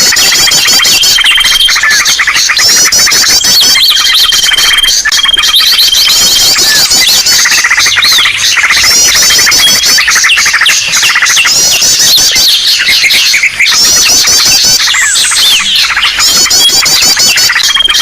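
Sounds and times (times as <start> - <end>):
small birds chirping and trilling: 0.0 - 18.0.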